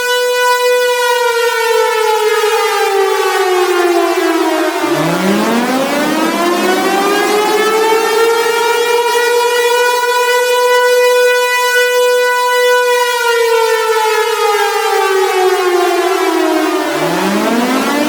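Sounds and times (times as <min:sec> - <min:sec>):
warning siren wailing: 0:00.0 - 0:18.0.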